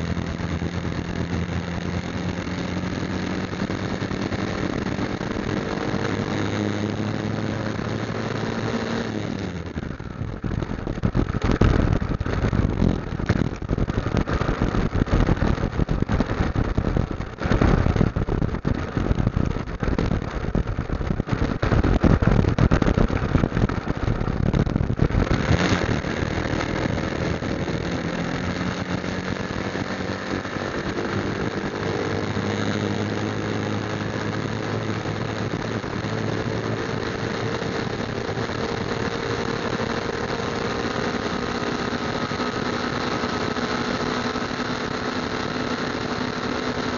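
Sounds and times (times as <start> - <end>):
rough rushing and buffeting noise: 0.0 - 46.9.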